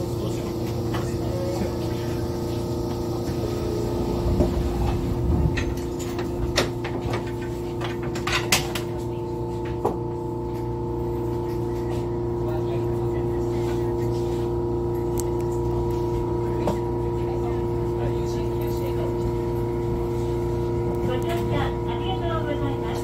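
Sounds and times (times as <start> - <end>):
electric train equipment humming: 0.0 - 23.0.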